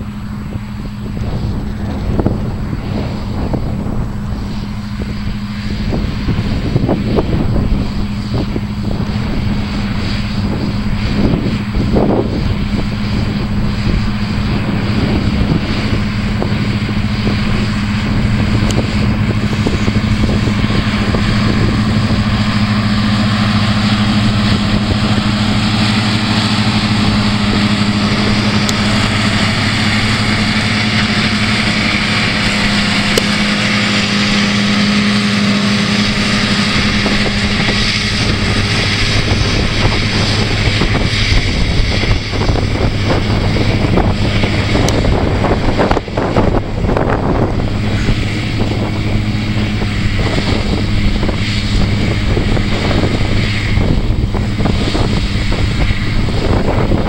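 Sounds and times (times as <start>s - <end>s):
hiss of mower cutting grass: 0.0s - 57.0s
tractor engine hum: 0.0s - 57.0s.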